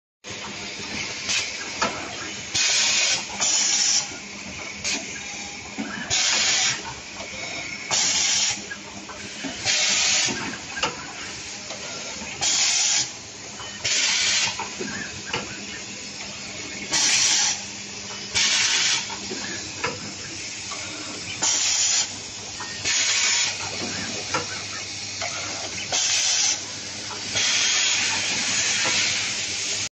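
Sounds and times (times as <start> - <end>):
pneumatic air hiss: 1.1 - 13.1, 13.8 - 29.8.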